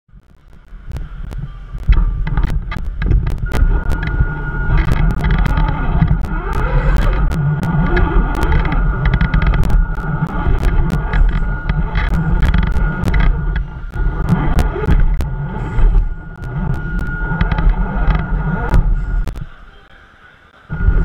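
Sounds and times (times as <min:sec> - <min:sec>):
low rumble: 0:00.1 - 0:19.6
sharp clicks and knocks: 0:00.5 - 0:19.5
electric motor whine: 0:01.0 - 0:19.5.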